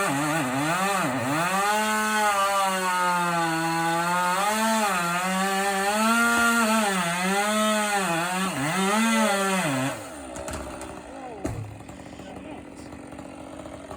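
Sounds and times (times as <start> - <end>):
chainsaw cutting wood: 0.0 - 13.9.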